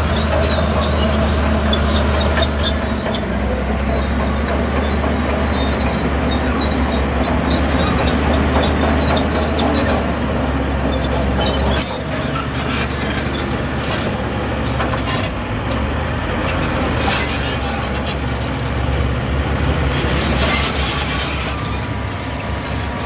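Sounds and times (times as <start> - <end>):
diesel construction machinery: 0.0 - 23.0.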